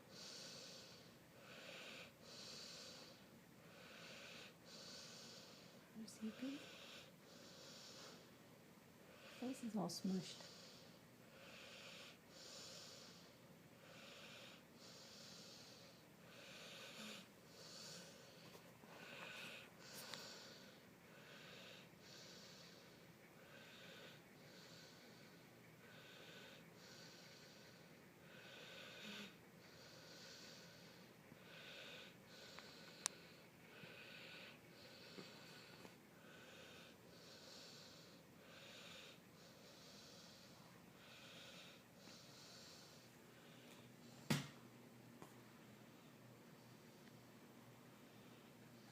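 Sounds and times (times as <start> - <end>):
dog snoring breaths: 0.0 - 8.4, 9.0 - 44.2.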